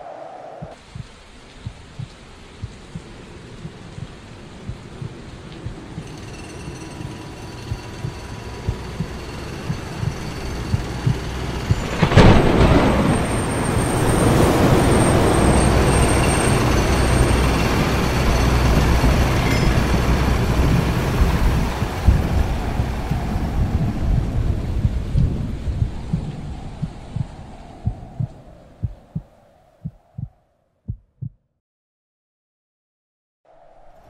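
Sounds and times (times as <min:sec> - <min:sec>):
low rumble: 0:01.7 - 0:30.4.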